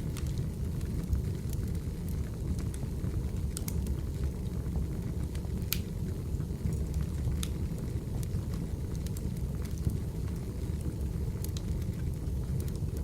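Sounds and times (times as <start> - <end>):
firewood crackling and popping: 0.0 - 13.0.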